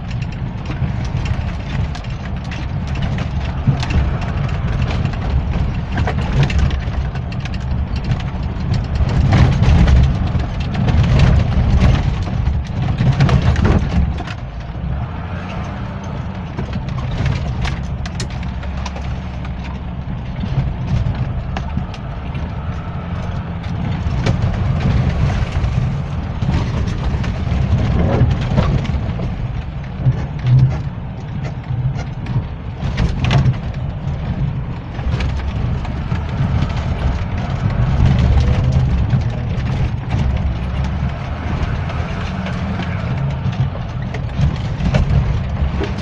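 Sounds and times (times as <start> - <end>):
engine droning under load: 0.0 - 46.0
vehicle knocking and clattering: 0.0 - 46.0.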